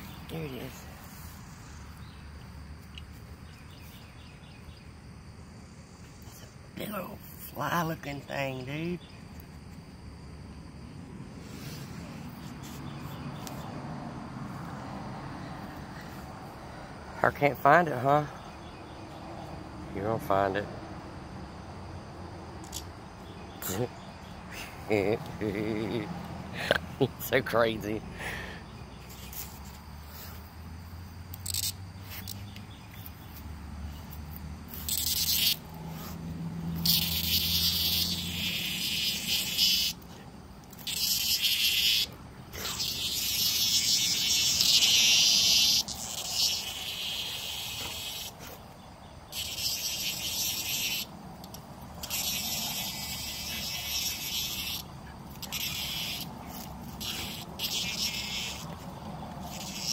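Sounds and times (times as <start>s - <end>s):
cicada distress buzzing: 0.0s - 59.9s.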